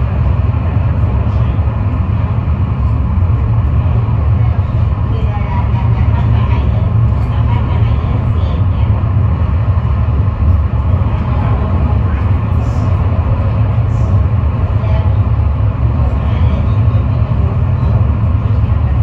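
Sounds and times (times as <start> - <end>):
low rumble of wheels on rails: 0.0 - 19.0.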